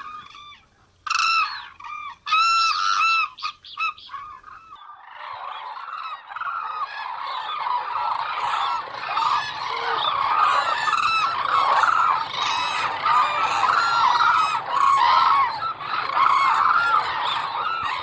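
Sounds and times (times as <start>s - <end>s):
cranes trumpeting calls: 0.0s - 18.0s.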